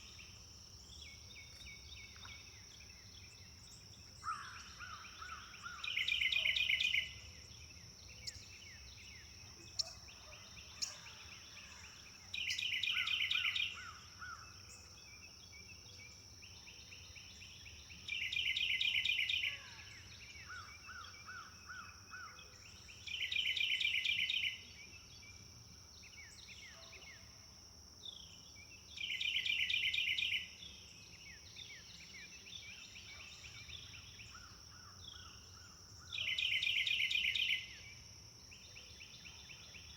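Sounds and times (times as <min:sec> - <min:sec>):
songbird singing trilled song: 0:00.0 - 0:27.4, 0:28.0 - 0:39.9.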